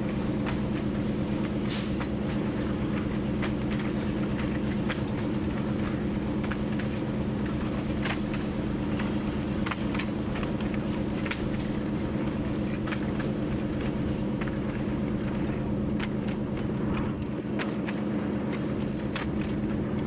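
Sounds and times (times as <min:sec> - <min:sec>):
diesel locomotive engine drone: 0:00.0 - 0:20.0
wheels clicking on track: 0:00.0 - 0:20.0.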